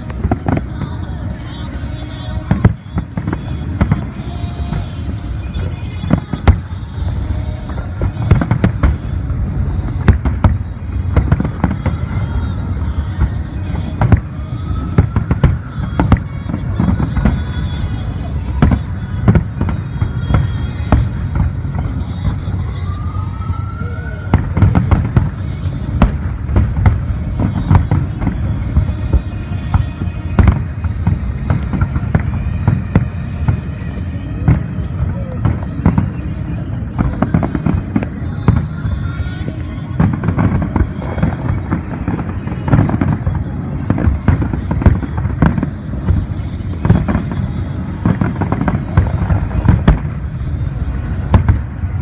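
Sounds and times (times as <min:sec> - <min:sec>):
continuous low rumble: 0:00.0 - 0:52.0
fireworks bursting with sharp bangs: 0:00.0 - 0:52.0.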